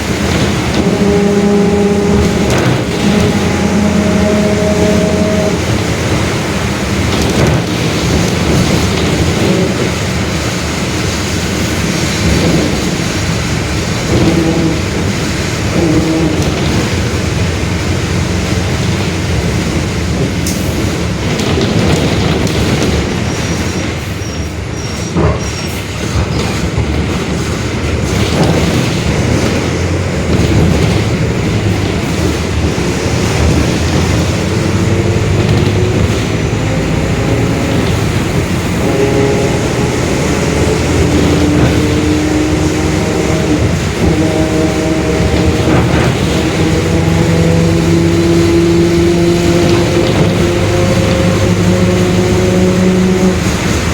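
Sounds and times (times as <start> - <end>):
bus driveline and tyres rumbling: 0.0 - 53.9.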